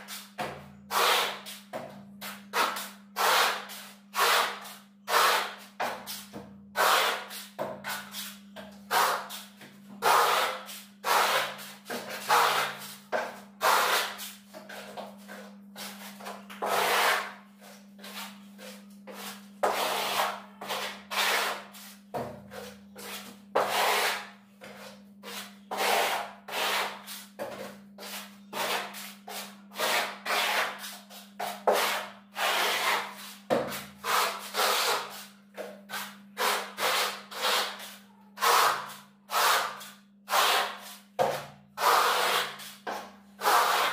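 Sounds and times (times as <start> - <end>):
steel trowel scraping plaster: 0.1 - 1.6, 2.3 - 43.9.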